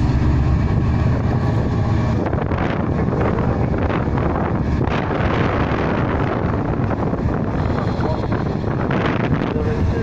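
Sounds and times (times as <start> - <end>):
diesel locomotive engine running: 0.0 - 10.0
wind buffeting microphone: 0.0 - 10.0.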